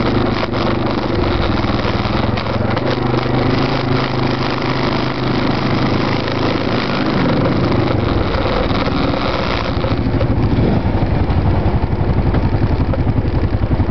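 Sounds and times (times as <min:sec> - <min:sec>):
atv engines running: 0:00.0 - 0:13.9
atv passing close by: 0:00.0 - 0:13.9.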